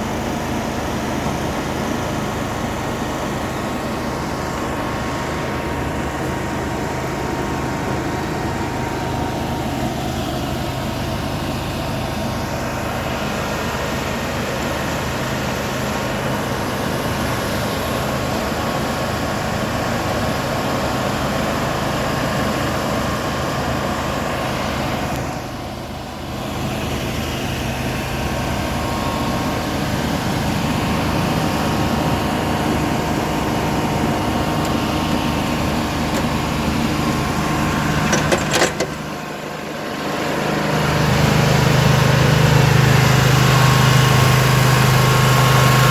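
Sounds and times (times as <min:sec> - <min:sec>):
engine-driven machinery droning: 0:00.0 - 0:45.9.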